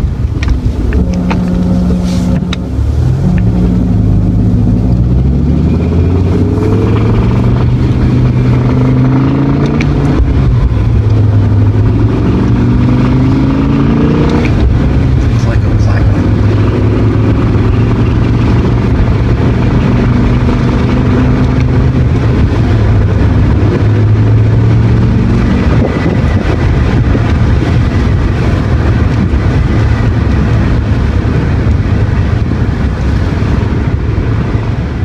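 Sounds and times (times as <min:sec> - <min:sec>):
car engine buzzing hum: 0:00.0 - 0:35.0.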